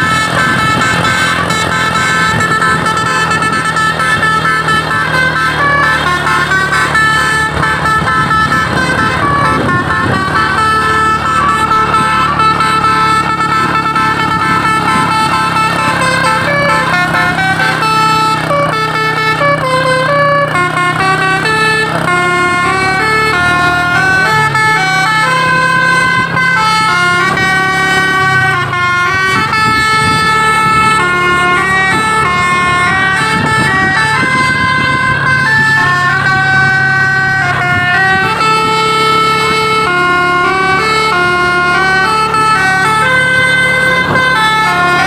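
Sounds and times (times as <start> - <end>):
multi-tone bus horn melody: 0.0 - 45.0
steady low drone: 0.0 - 45.0.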